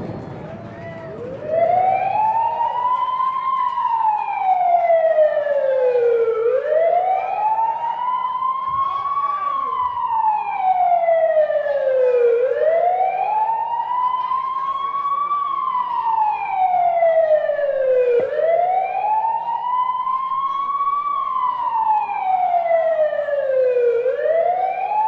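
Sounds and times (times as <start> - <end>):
wailing siren: 0.0 - 25.0.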